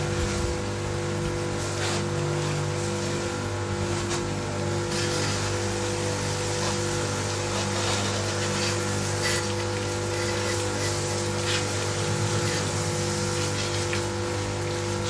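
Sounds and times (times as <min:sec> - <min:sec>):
pressure washer motor hum: 0:00.0 - 0:15.0
water jet hissing on metal: 0:01.4 - 0:15.0.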